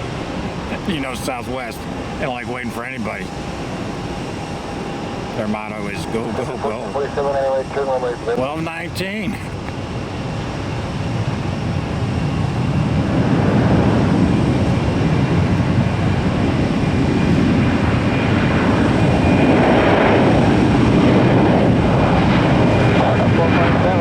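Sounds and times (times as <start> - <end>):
faint high whine: 0.0 - 20.7
jet engines at takeoff power: 0.0 - 24.0.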